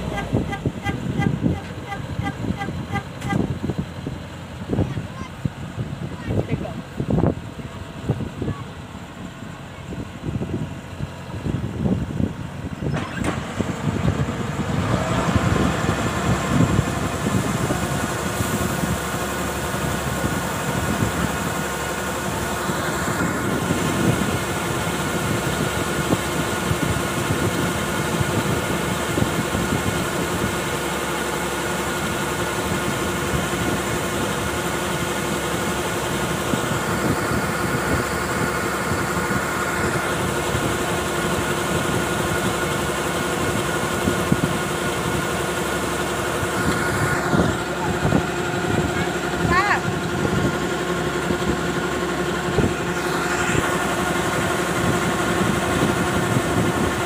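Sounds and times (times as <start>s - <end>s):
combine harvester diesel engine: 0.0s - 57.0s.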